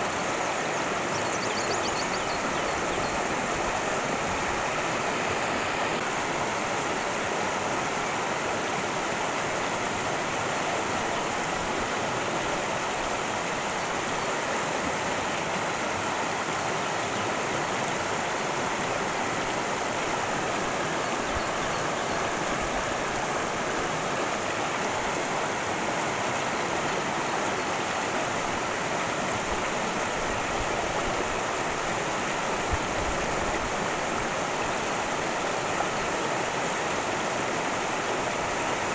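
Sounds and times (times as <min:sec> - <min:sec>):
water rushing over rocks: 0:01.9 - 0:38.9.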